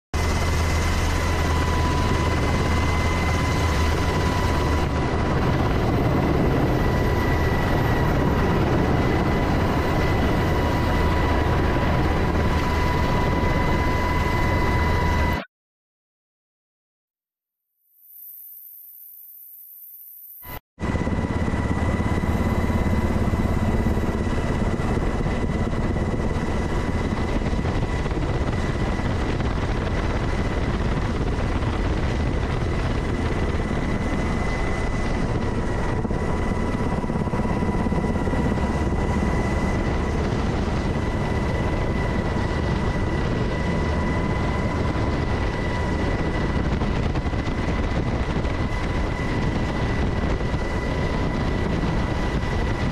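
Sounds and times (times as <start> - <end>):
helicopter rotor and turbine drone: 0.2 - 15.5, 19.8 - 52.9.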